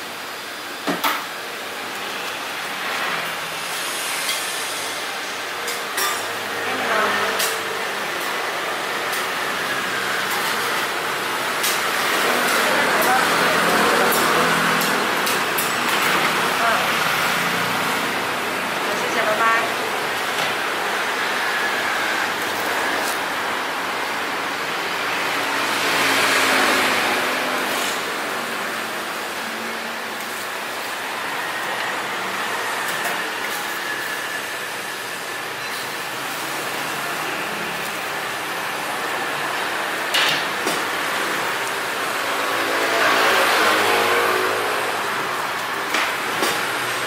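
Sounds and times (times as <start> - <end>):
street traffic noise: 0.0 - 47.0.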